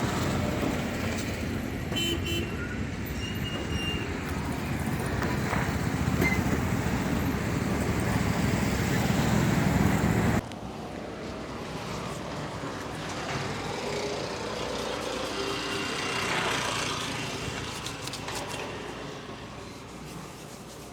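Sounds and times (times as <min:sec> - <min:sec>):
road traffic engines: 0:00.0 - 0:20.9.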